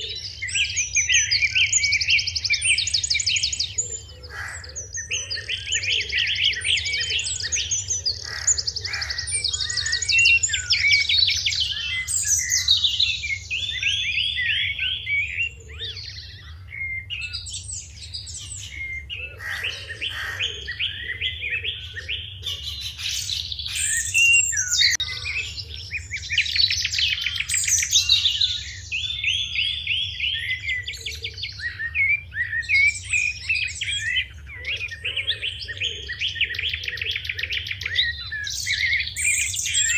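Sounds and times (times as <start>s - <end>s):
lower bird calls: 0.0s - 39.9s
sparrows chirping: 0.0s - 39.9s.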